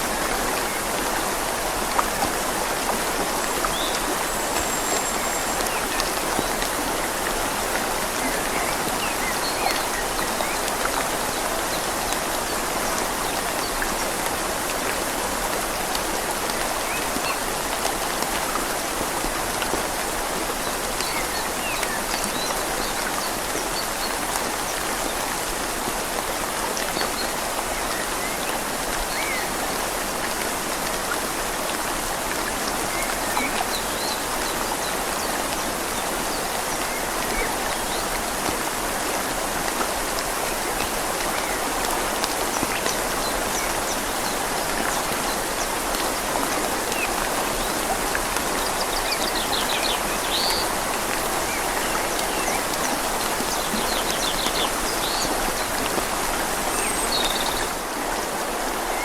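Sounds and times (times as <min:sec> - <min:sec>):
rain falling on leaves: 0:00.0 - 0:59.0
river flowing gently: 0:00.0 - 0:59.0.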